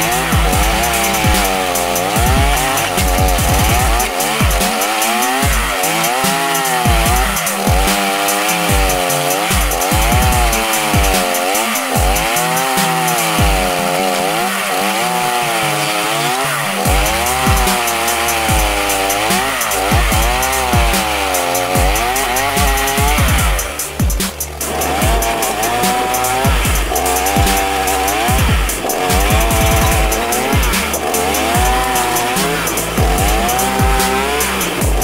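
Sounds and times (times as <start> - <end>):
chainsaw engine grinding stump: 0.0 - 35.0.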